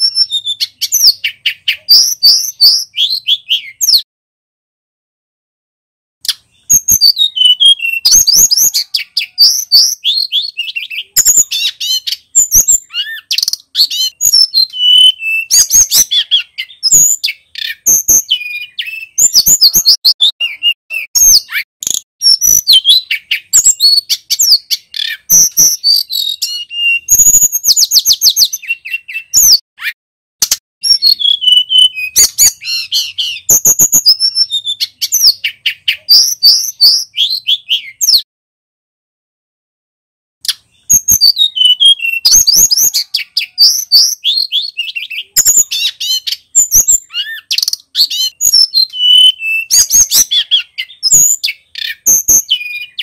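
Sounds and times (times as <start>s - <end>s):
bird singing whistled notes: 0.0s - 4.1s, 6.2s - 30.0s, 30.8s - 38.3s, 40.4s - 53.0s.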